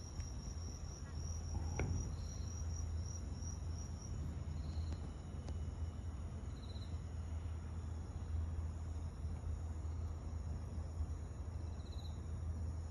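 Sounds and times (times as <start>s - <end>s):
cricket trilling: 0.0s - 12.9s
faint high insect tones: 0.0s - 12.9s
steady low hum: 0.0s - 12.9s.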